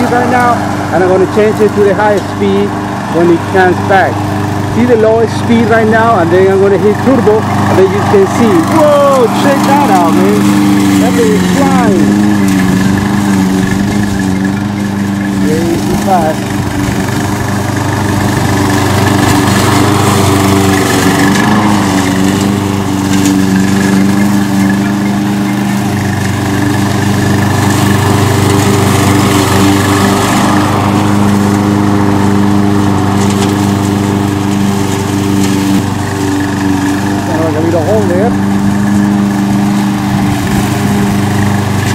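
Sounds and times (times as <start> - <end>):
mower cutting grass: 0.0 - 41.9
mower engine running: 0.0 - 41.9.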